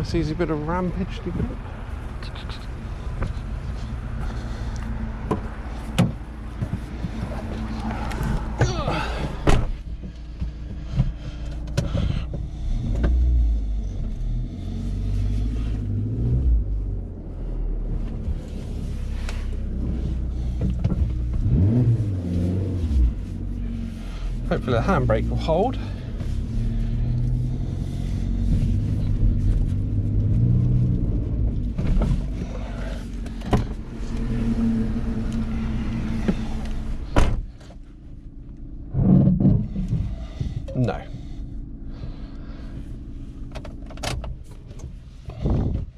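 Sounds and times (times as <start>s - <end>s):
car engine revving: 0.0s - 45.7s.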